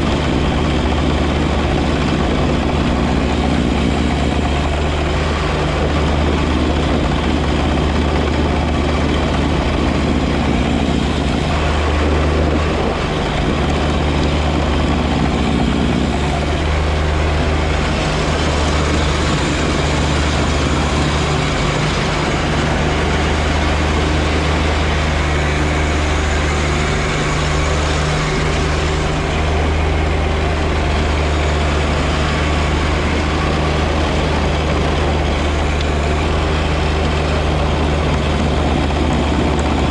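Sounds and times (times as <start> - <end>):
snow blower whirring and hissing: 0.0 - 39.9
tractor diesel engine running: 0.0 - 39.9.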